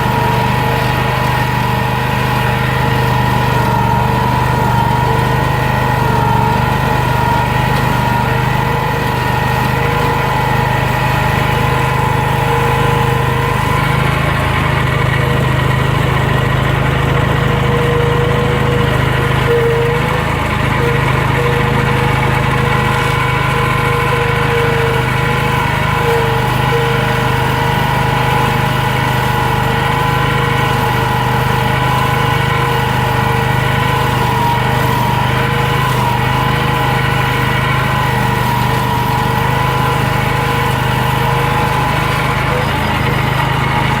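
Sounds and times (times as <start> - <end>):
lawn mower engine running: 0.0 - 44.0.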